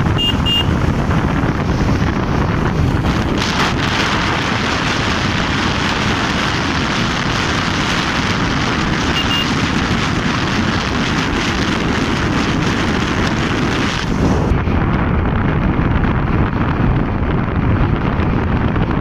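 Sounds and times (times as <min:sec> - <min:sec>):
road noise: 0:00.0 - 0:19.0
rushing wind on microphone: 0:00.0 - 0:19.0.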